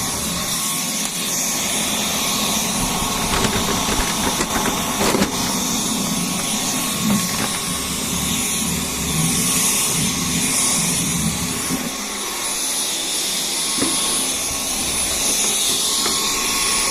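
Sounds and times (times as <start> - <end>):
vacuum cleaner low rumble: 0.0 - 16.9
vacuum cleaner whine: 0.0 - 16.9.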